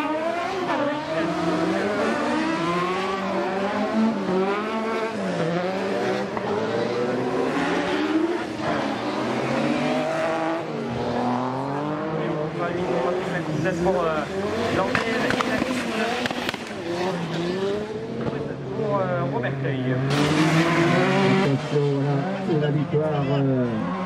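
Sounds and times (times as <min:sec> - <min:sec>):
buggy engines revving: 0:00.0 - 0:24.0.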